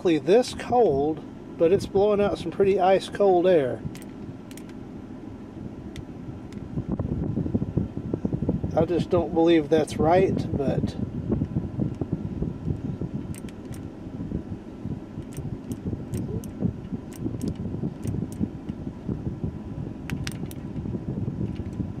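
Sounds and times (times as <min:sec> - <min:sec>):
air blower rushing through vents: 0:00.0 - 0:22.0.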